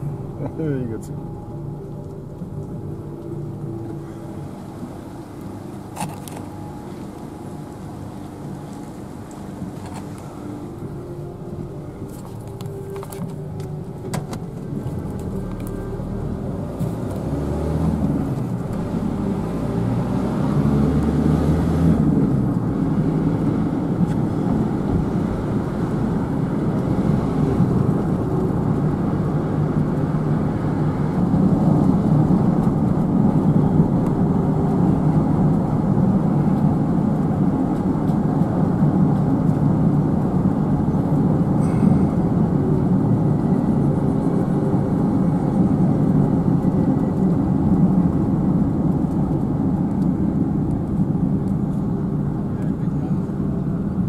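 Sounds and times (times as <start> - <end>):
vehicle road rumble: 0.0 - 54.0.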